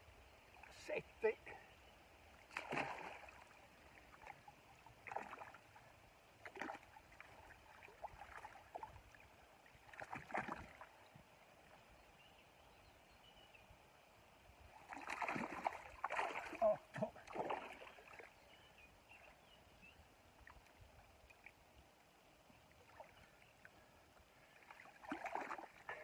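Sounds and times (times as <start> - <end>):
shallow river water splashing: 0.3 - 13.5, 14.4 - 26.0.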